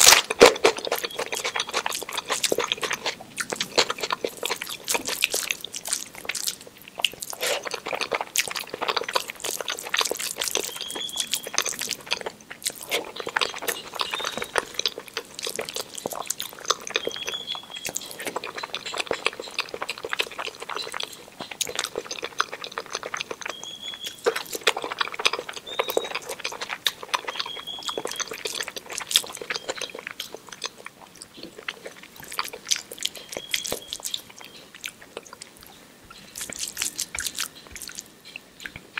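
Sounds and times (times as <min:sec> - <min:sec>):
fingers squishing rice: 0:00.0 - 0:38.1
wet chewing and mouth clicks: 0:00.0 - 0:38.9.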